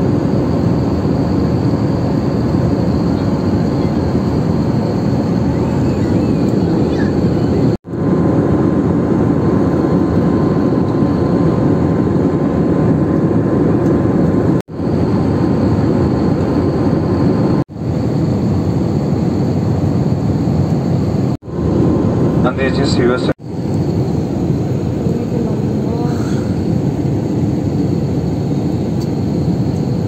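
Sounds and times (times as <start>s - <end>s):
jet engine roar inside cabin: 0.0s - 30.0s.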